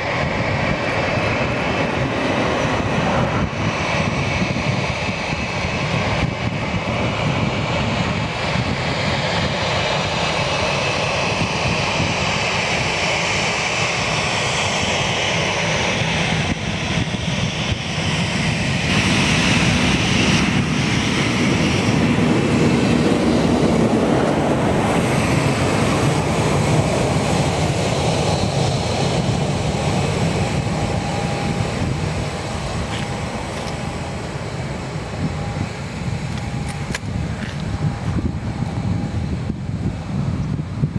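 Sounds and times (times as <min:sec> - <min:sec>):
jet engines rumbling with high whine: 0:00.0 - 0:40.9.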